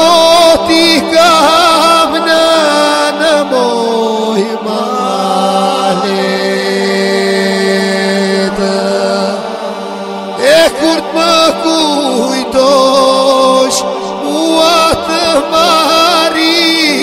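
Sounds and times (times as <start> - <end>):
steady drone: 0.0 - 17.0.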